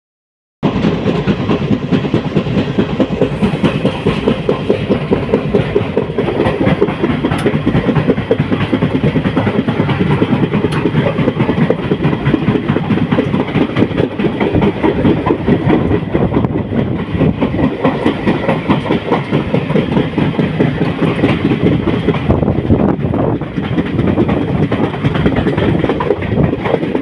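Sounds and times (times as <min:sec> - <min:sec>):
train wheels clattering on rails: 0:00.6 - 0:27.0.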